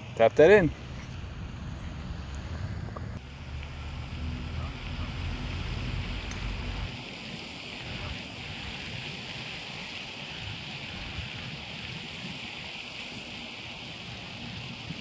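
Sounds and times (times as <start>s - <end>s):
outdoor hiss: 0.0s - 15.0s
wind on microphone: 0.0s - 15.0s.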